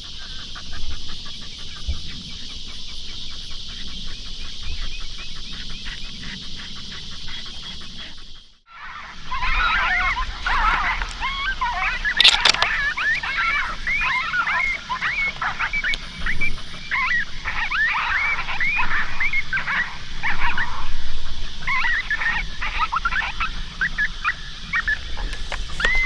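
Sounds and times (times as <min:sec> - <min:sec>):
coyote pup yips and whines: 0:00.1 - 0:21.0, 0:21.6 - 0:26.0.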